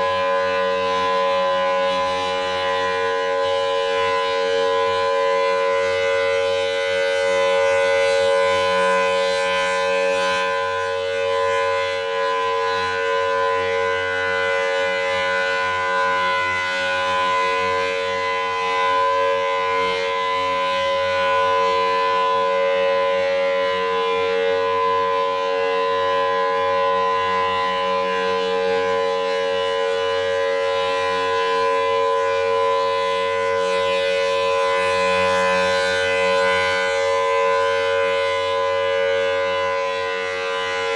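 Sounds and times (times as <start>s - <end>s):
steady siren tone: 0.0s - 40.9s.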